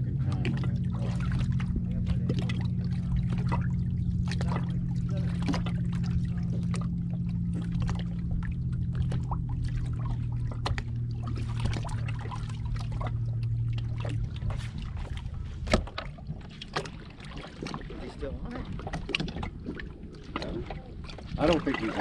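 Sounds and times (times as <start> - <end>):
electric boat motor humming: 0.0 - 22.0
water splashing against hull: 0.0 - 22.0.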